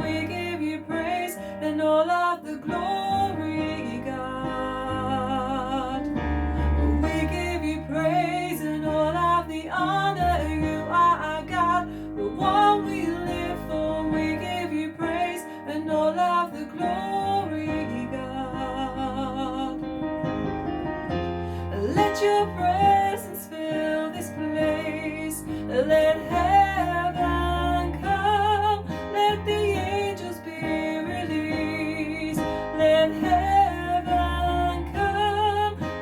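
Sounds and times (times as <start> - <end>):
woman singing: 0.0 - 19.9, 21.7 - 36.0
piano and keyboard: 0.0 - 36.0.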